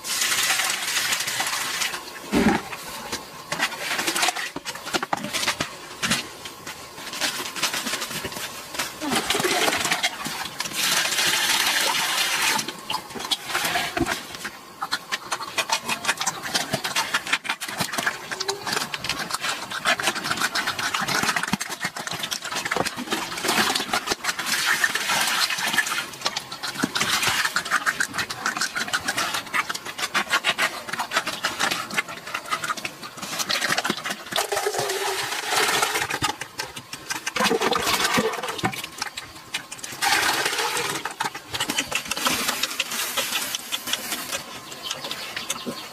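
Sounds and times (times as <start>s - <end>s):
pigs chewing and slurping: 0.0s - 45.9s.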